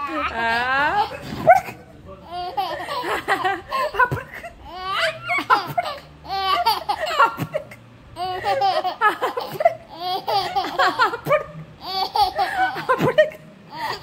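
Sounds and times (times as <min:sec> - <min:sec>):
baby laughing: 0:00.0 - 0:14.0.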